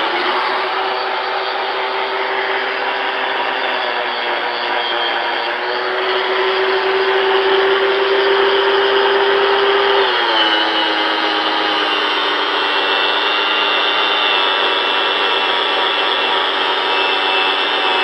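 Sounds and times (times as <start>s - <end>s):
angle grinder motor whine: 0.0s - 18.0s.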